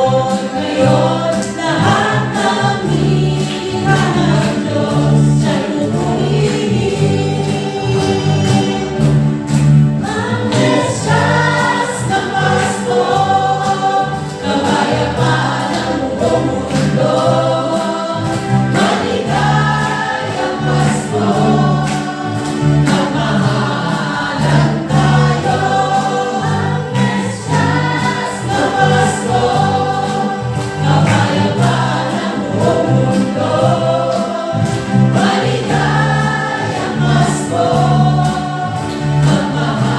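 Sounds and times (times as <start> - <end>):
gospel choir singing: 0.0 - 39.9
instrumental accompaniment with beat: 0.0 - 39.9.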